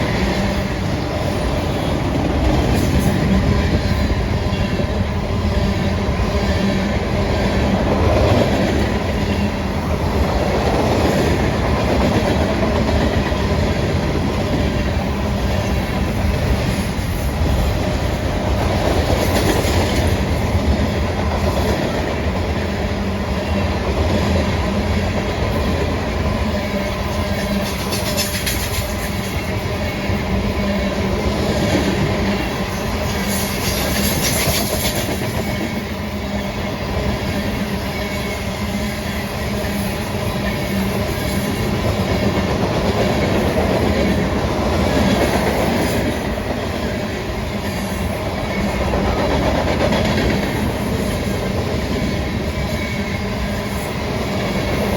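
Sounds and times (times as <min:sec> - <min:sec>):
train passing: 0:00.0 - 0:54.9.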